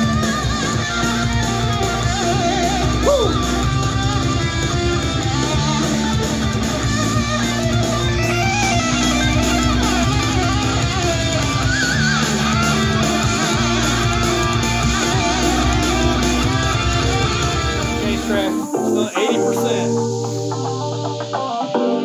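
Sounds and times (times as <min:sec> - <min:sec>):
loud guitar rock music: 0:00.0 - 0:22.0.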